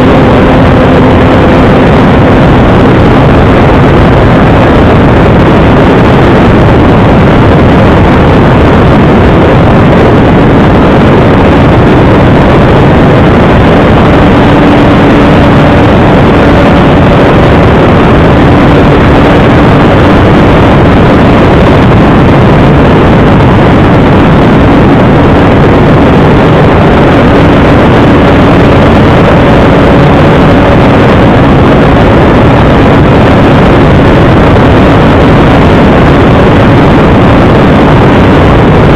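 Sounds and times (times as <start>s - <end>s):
model airplane motor and propeller: 0.0s - 38.9s
rushing air noise: 0.0s - 38.9s.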